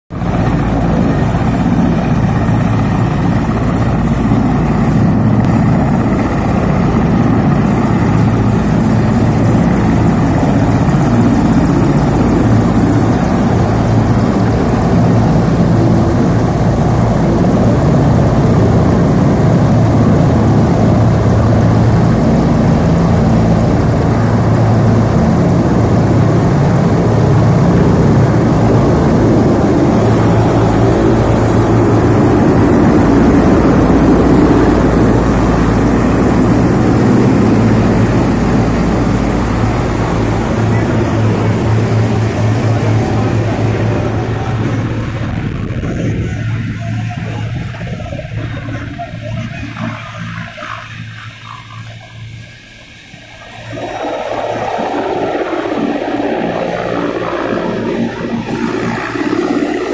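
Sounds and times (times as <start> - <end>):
helicopter engine and rotor drone: 0.1 - 59.9.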